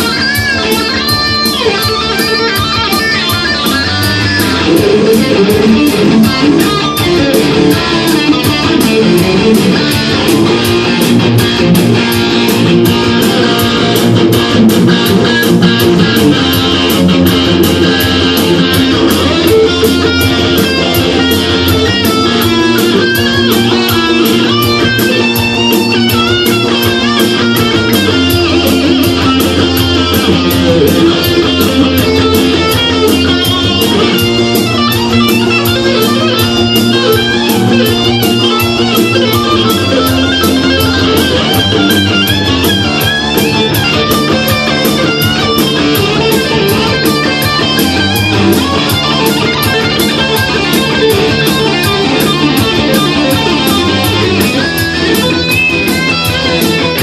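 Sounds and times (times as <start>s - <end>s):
electric guitar shred lead: 0.0s - 57.0s
looped drums bass and rhythm guitar: 0.0s - 57.0s.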